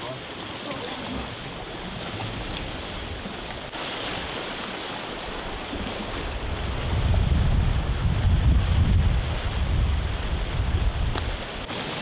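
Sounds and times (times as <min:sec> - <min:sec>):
sea surf washing over rocks: 0:00.0 - 0:12.0
wind on microphone: 0:01.0 - 0:12.0.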